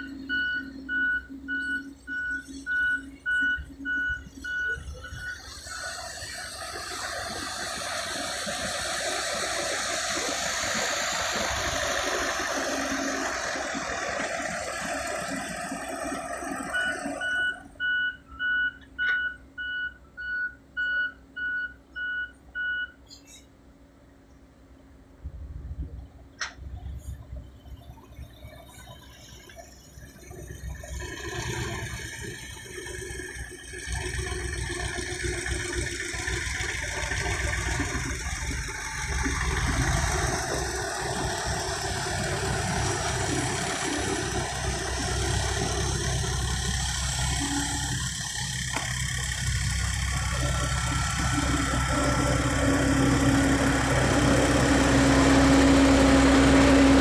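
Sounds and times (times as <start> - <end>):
excavator diesel engine rumble: 0.0 - 24.0, 24.7 - 57.0.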